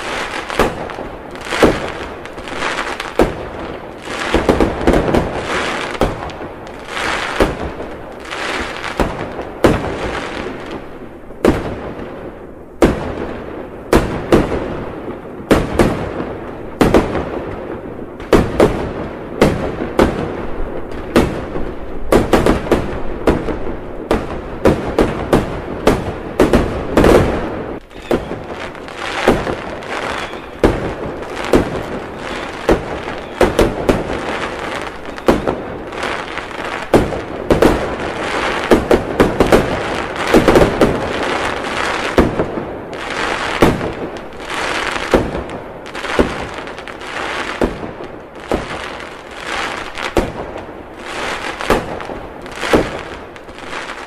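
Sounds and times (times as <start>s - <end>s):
continuous hiss: 0.0s - 54.0s
fireworks bursting with sharp bangs: 0.0s - 54.0s.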